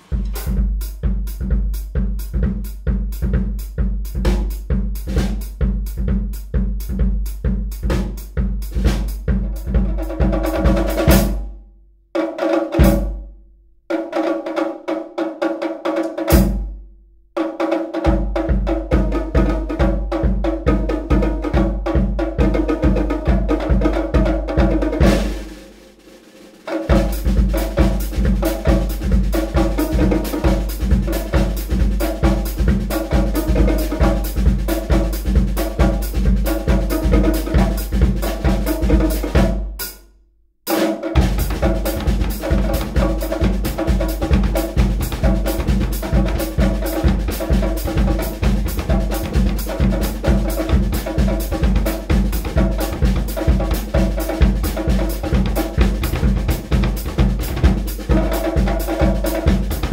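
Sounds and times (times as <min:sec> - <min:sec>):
fast drum groove: 0:00.0 - 0:11.4, 0:12.2 - 0:13.2, 0:14.0 - 0:16.7, 0:17.4 - 0:40.0, 0:40.7 - 0:59.9.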